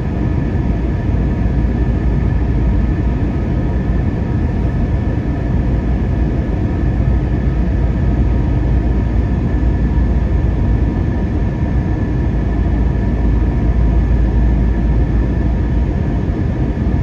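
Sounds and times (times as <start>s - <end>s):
faint steady whine: 0.0s - 17.0s
jet engine and airflow rumble: 0.0s - 17.0s.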